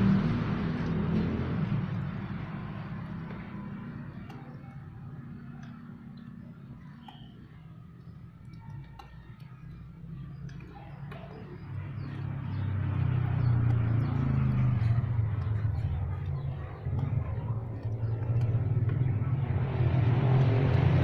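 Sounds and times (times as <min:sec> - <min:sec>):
vehicle engine approaching: 0:00.0 - 0:21.0.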